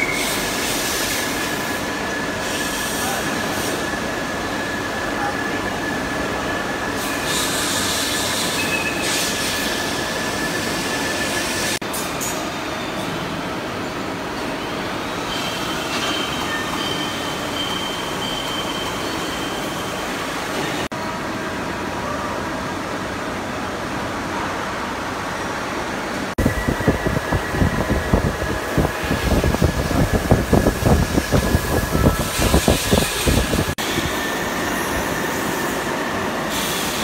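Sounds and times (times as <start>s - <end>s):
workshop machinery noise: 0.0s - 37.0s.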